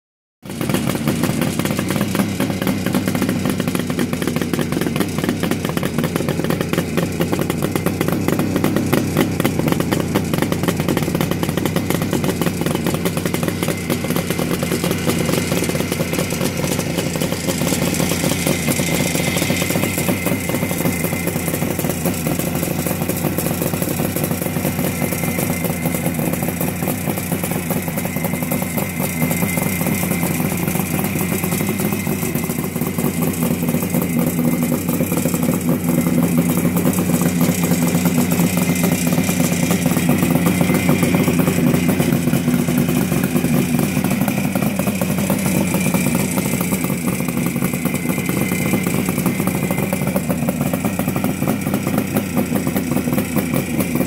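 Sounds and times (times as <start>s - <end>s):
motorcycle engine idling: 0.4s - 54.0s.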